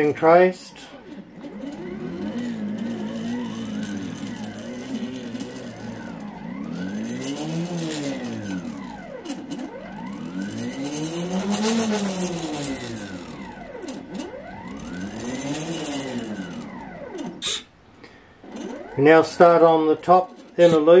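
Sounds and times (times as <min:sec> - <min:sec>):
plotter motors whining: 0:00.0 - 0:21.0.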